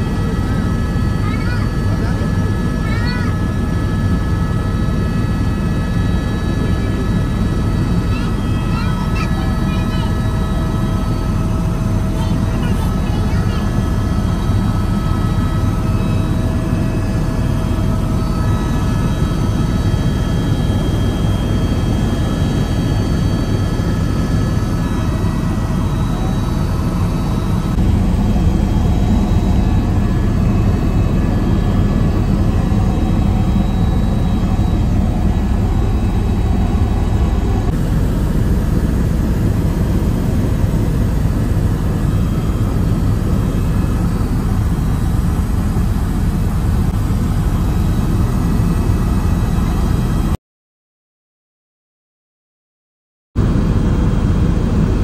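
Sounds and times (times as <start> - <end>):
helicopter engine and rotors: 0.0 - 50.4, 53.4 - 55.0.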